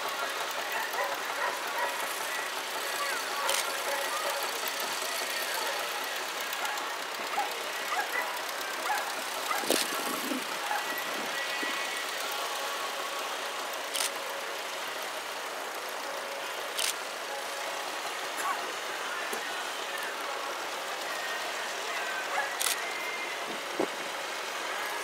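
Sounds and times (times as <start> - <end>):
outdoor noise: 0.0 - 25.0
tractor engines running: 0.0 - 25.0.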